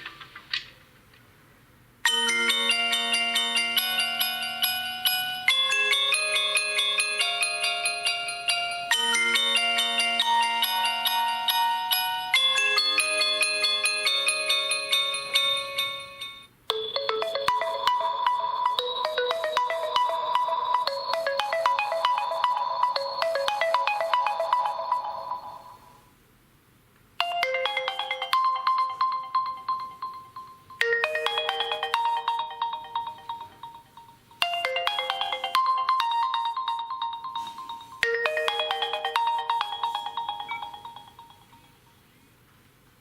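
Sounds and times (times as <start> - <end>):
bright chiming ringtone melody: 2.1 - 26.0, 27.2 - 42.0.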